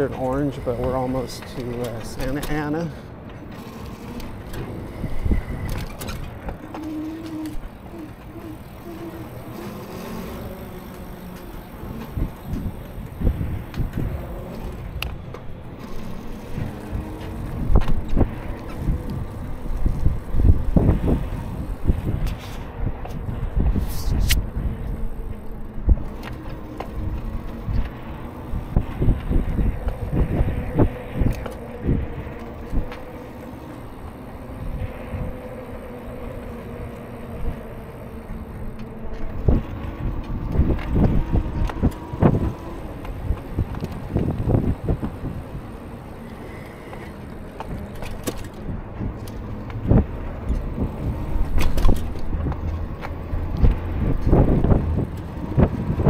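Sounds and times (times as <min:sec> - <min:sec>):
faint steady whine: 0:00.0 - 0:56.0
road noise: 0:00.0 - 0:56.0
wind buffeting microphone: 0:00.0 - 0:56.0.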